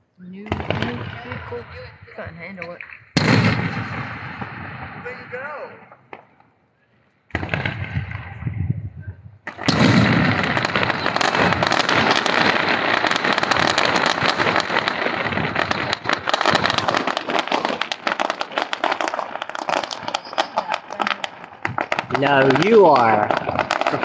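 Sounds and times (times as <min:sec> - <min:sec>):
fireworks crackling and popping: 0:00.4 - 0:06.6, 0:07.3 - 0:24.0.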